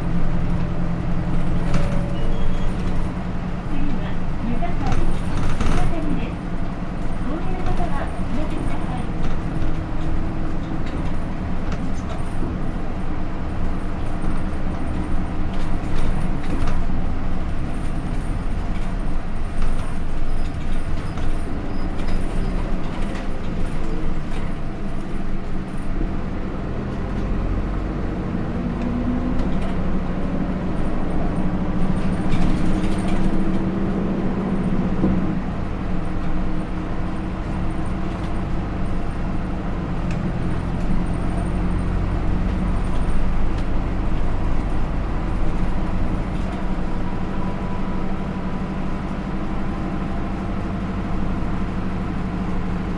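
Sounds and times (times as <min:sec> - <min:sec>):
bus diesel engine running: 0:00.0 - 0:52.9
road and body noise: 0:00.0 - 0:52.9.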